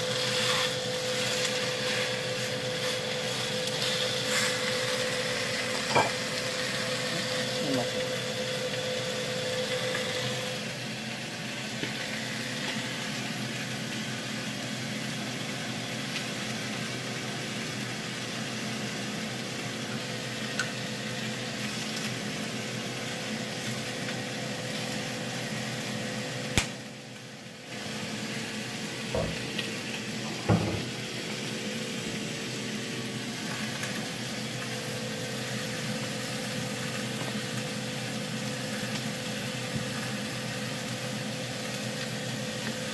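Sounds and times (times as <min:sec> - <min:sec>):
vegetables sizzling in a pan: 0:00.0 - 0:42.9.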